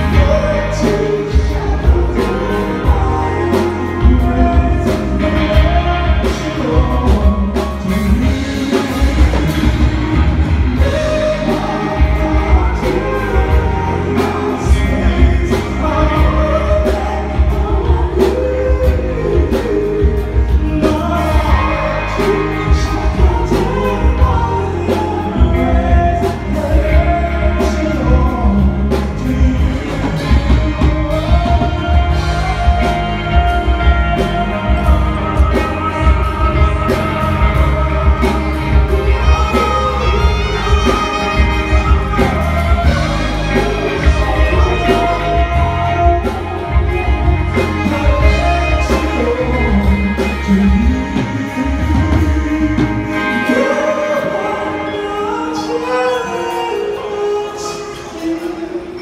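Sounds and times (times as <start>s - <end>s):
heavy bass beat: 0.0s - 52.9s
electric guitar: 0.0s - 59.0s
man singing: 0.0s - 59.0s.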